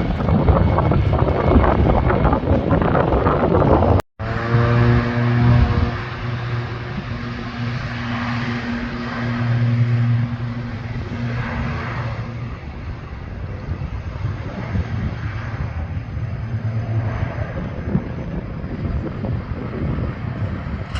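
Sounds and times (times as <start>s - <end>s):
aircraft engines droning: 0.0s - 20.9s.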